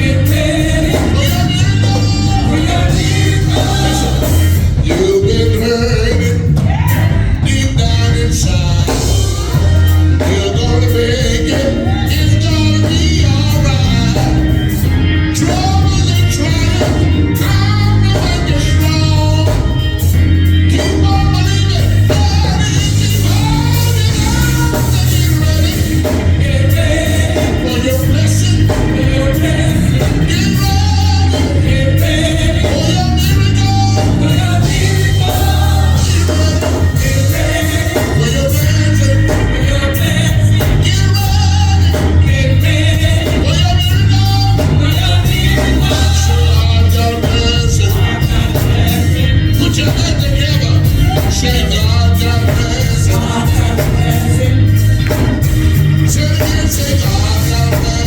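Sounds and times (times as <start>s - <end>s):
gospel voices singing: 0.0s - 58.0s
heavy bass line: 0.0s - 58.0s.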